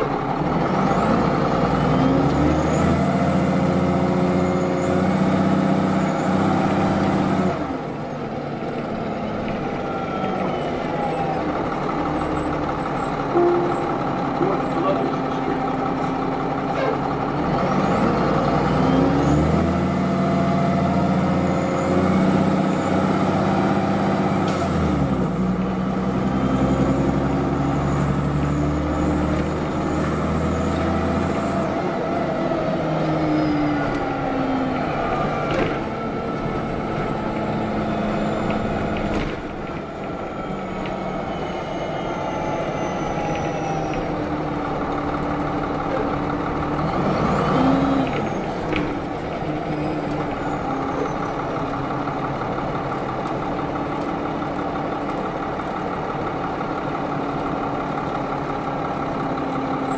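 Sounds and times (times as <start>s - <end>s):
bus diesel engine pulling away: 0.0s - 59.9s.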